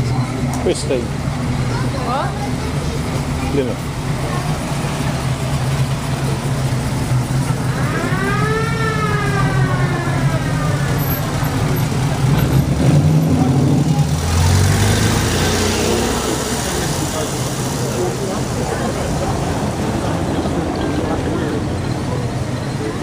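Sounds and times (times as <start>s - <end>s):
old car engine running: 0.0s - 23.0s
vehicle passing close: 1.5s - 23.0s.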